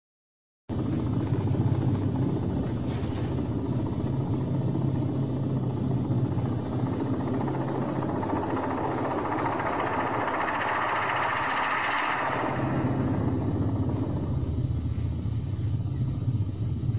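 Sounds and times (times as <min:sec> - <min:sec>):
helicopter engine and rotor drone: 0:00.7 - 0:16.9.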